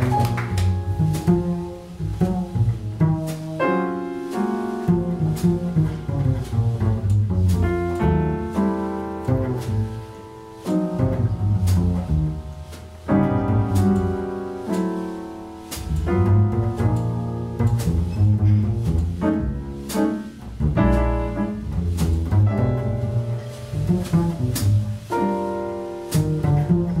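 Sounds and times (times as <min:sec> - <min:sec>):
double bass line: 0:00.0 - 0:27.0
jazz piano: 0:00.0 - 0:27.0.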